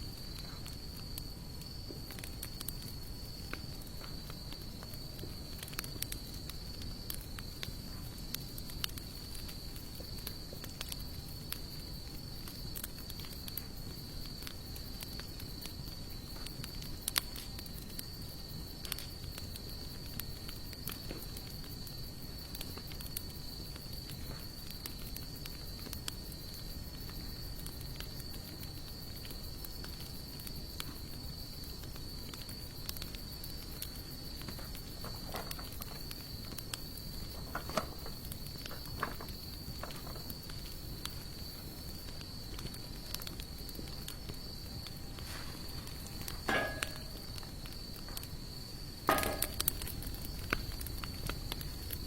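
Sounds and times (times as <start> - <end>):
wood fire crackling and popping: 0.0 - 52.0
high insect trill: 8.4 - 52.0.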